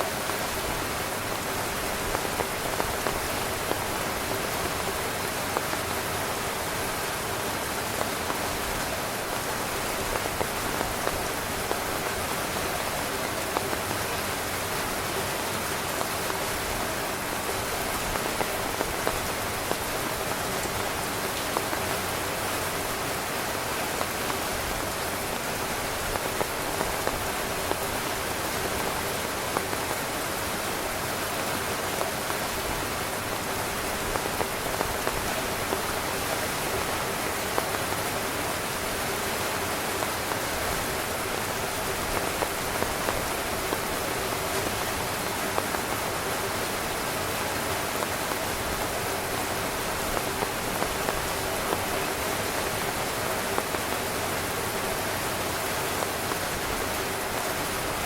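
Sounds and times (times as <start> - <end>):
rain falling on a tent: 0.0 - 58.0.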